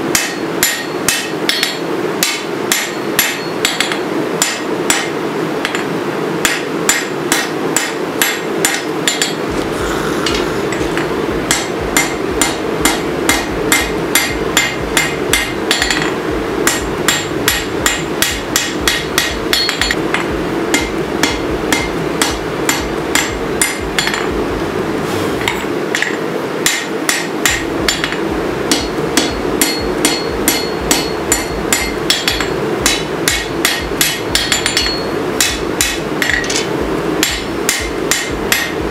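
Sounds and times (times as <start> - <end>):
hammer striking steel on anvil: 0.0 - 9.6, 10.2 - 24.4, 25.2 - 38.9
steady rushing noise: 0.0 - 38.9.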